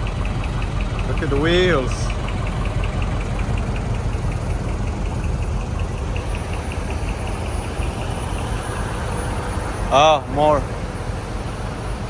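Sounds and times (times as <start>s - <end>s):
light even ticking: 0.0s - 9.9s
vehicle engine idling: 0.0s - 12.0s.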